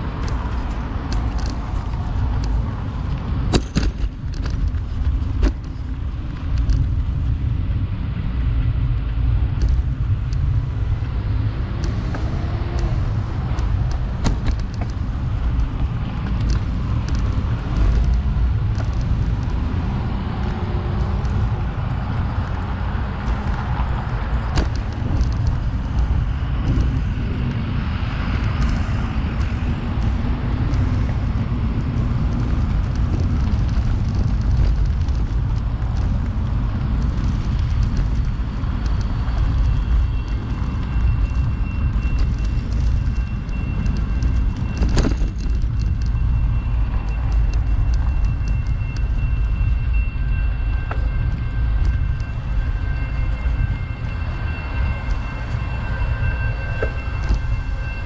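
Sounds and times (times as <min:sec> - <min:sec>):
road and traffic noise: 0:00.0 - 0:58.0
wind rumbling on microphone: 0:00.0 - 0:58.0.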